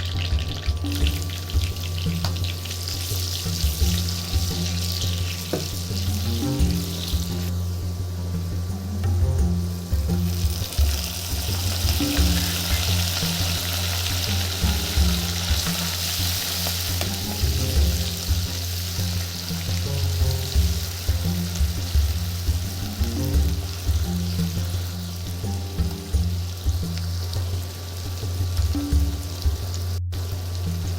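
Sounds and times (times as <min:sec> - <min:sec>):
background music: 0:00.0 - 0:30.9
food sizzling in hot oil: 0:00.0 - 0:30.9.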